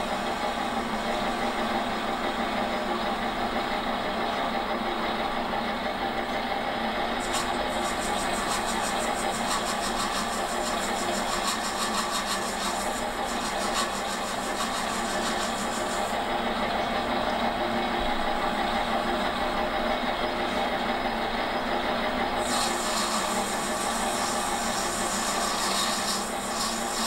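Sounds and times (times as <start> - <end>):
metal lathe running: 0.0 - 27.0.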